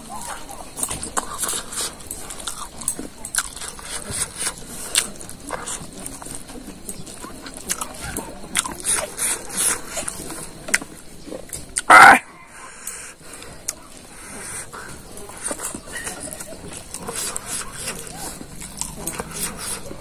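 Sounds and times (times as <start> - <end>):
man chewing with lip-smacking: 0.0 - 20.0.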